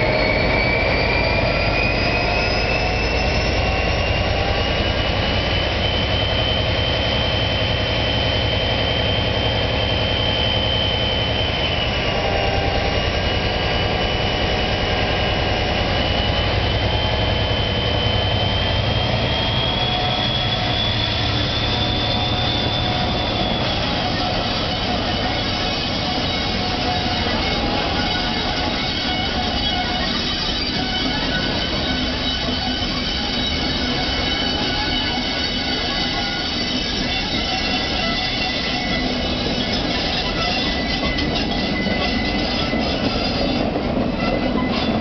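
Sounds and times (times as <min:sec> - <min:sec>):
deep diesel engine drone: 0:00.0 - 0:40.8
turbocharger whine: 0:00.0 - 0:40.8.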